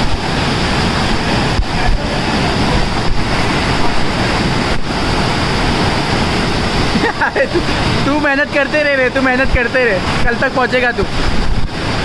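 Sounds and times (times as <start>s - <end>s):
waterfall pouring over rocks: 0.0s - 12.0s.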